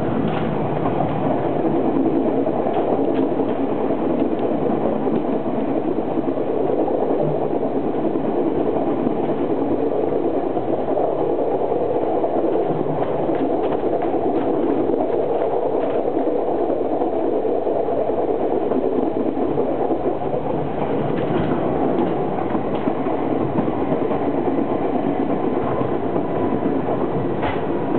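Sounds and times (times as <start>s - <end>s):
train rumbling: 0.0s - 27.9s
train wheels clicking: 0.0s - 27.9s.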